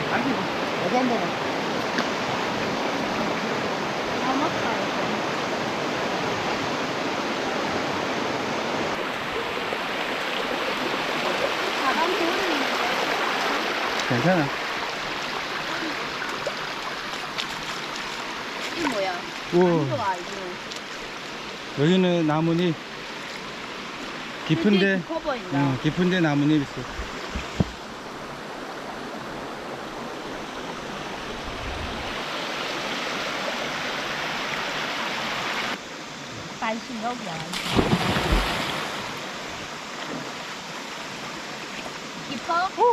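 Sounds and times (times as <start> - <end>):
stream water flowing: 0.0 - 42.9.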